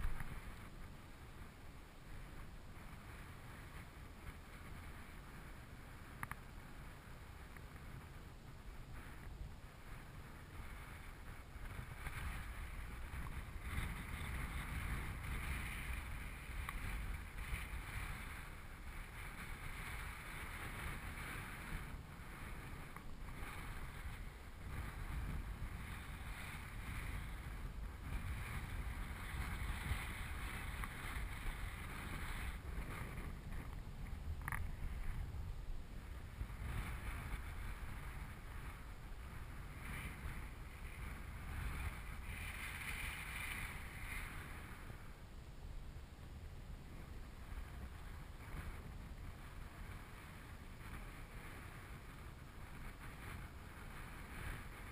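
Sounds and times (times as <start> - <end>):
wind buffeting microphone: 0.0 - 45.2, 45.9 - 54.9.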